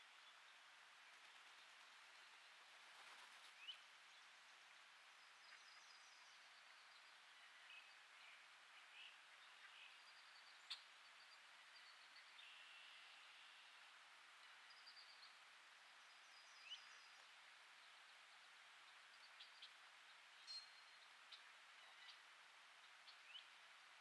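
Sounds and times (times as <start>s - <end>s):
distant bird chirps and trills: 0.0s - 24.0s
low steady hiss: 0.0s - 24.0s.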